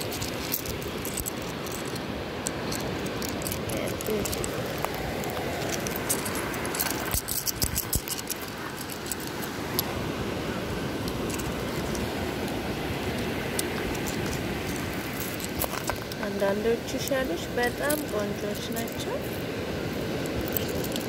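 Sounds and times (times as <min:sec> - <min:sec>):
seashells clicking and rattling: 0:00.0 - 0:10.0, 0:10.9 - 0:16.2, 0:17.7 - 0:19.0, 0:20.0 - 0:21.0
steady rushing noise: 0:00.0 - 0:21.0.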